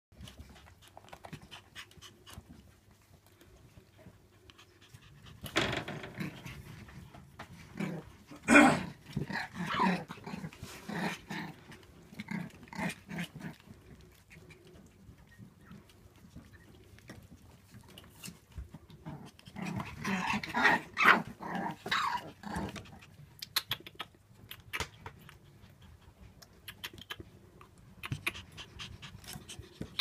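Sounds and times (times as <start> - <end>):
puppy growls and yips: 4.0 - 30.0.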